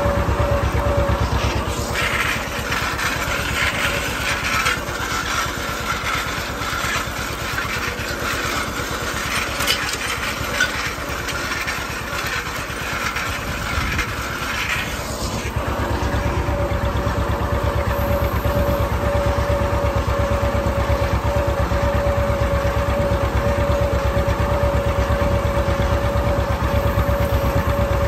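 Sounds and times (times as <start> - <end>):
disk harrow rushing noise: 0.0 - 28.0
tractor engine running under load: 0.0 - 28.0.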